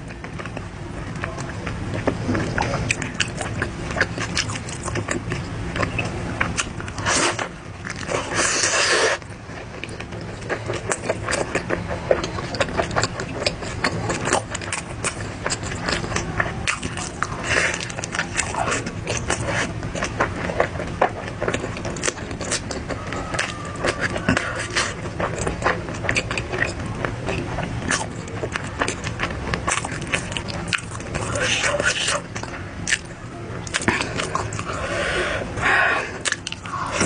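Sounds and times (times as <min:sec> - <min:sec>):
crunching and chewing: 0:00.0 - 0:37.0
steady low hum: 0:00.0 - 0:37.0.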